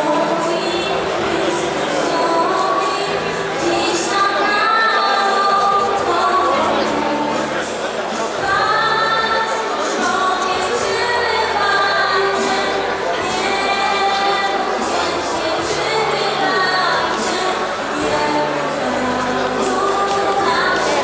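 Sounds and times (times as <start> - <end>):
choir singing a carol: 0.0 - 21.0.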